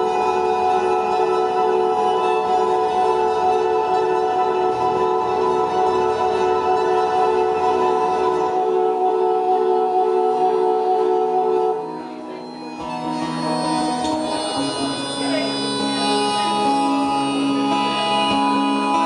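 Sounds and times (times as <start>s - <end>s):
acoustic guitar droning notes: 0.0s - 19.0s.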